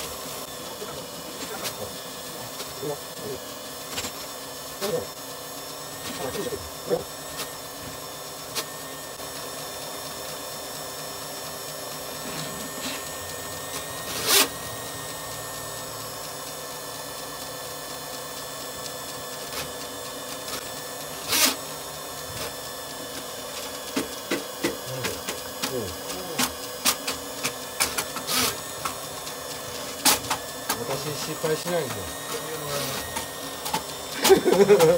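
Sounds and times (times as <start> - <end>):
drain rodder motor whine: 0.0 - 34.9.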